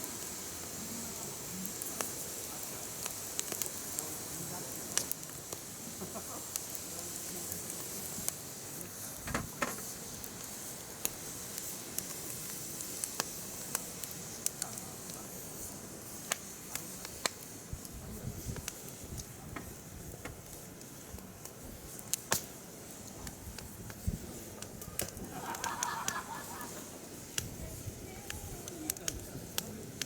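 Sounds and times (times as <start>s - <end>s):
faint steady hiss: 0.0s - 30.0s
firewood crackling and popping: 0.0s - 30.0s.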